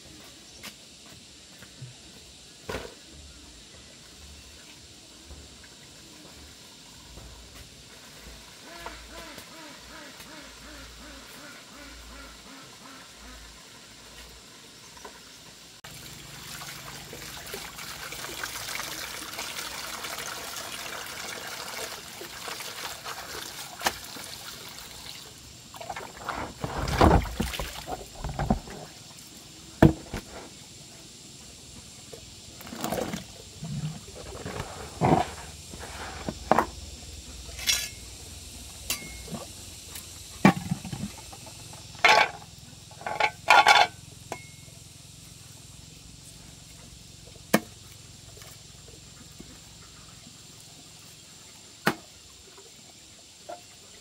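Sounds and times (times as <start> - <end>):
water running: 4.0 - 30.7, 31.6 - 54.0.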